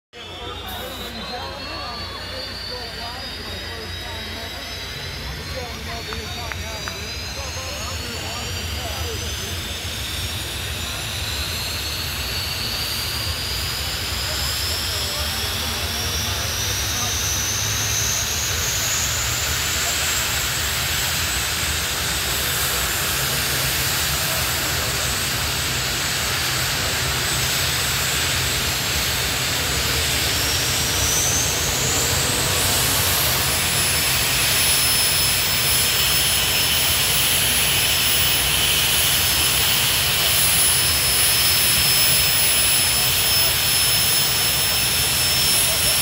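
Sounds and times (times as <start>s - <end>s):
turbine engine whining: 0.1s - 46.0s.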